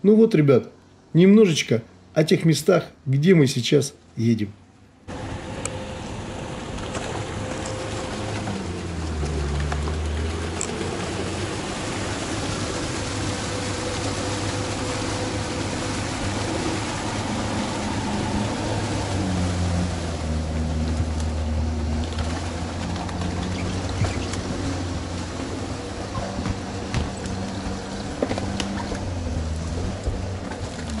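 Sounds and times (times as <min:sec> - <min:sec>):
vehicle engine running: 0:05.1 - 0:31.0
water churning: 0:05.1 - 0:31.0.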